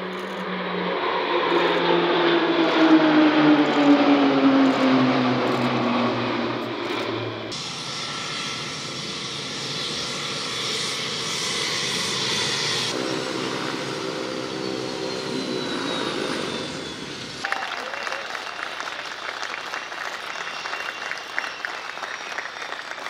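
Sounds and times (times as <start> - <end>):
turboprop aircraft engine drone: 0.0 - 17.4, 19.1 - 22.6.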